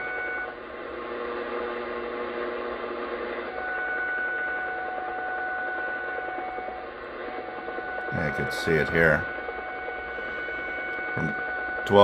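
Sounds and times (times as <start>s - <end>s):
hissy pulsing radio background: 0.0s - 12.0s
steady whistling radio tones: 0.0s - 12.0s.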